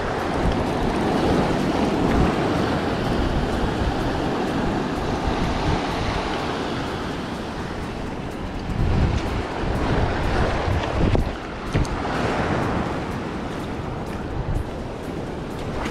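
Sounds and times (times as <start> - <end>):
ocean waves breaking on rocks: 0.0 - 15.9
wind rumbling on microphone: 0.0 - 15.9.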